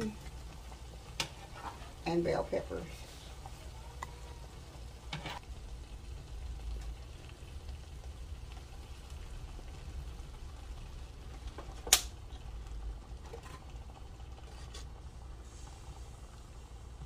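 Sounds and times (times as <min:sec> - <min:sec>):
gravy simmering in skillet: 0:00.0 - 0:17.0.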